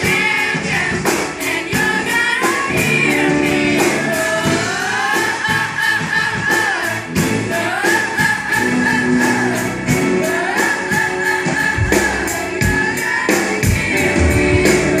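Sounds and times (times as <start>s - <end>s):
group of voices singing: 0.0s - 15.0s
steady percussion beat: 0.0s - 15.0s.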